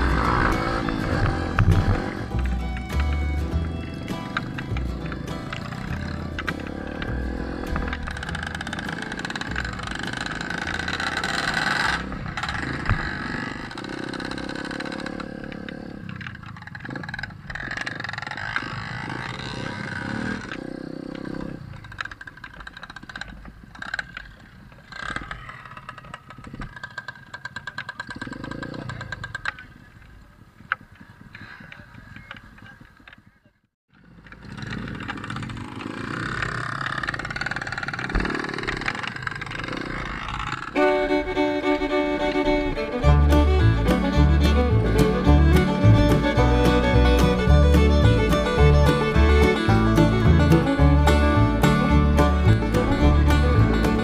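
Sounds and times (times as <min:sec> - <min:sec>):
dirt bike engines revving: 0:00.0 - 0:32.9, 0:33.9 - 0:54.0.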